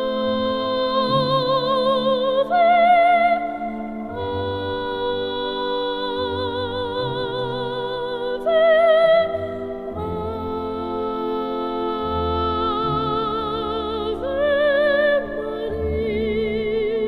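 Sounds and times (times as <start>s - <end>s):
slow background music: 0.0s - 17.0s.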